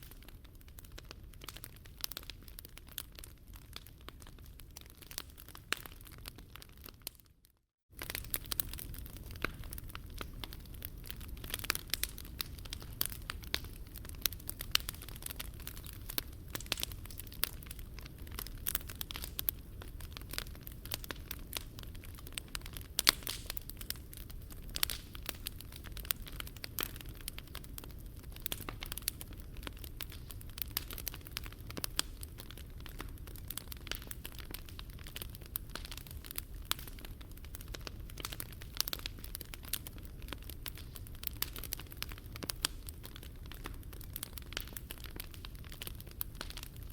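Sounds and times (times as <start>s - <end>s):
low fire rumble: 0.0s - 6.9s, 8.0s - 46.9s
wood fire crackling and popping: 0.0s - 46.9s.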